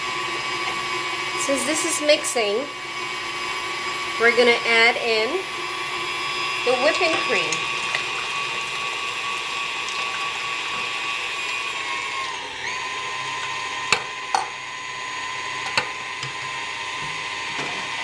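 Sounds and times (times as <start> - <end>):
stand mixer motor whine: 0.0 - 18.0.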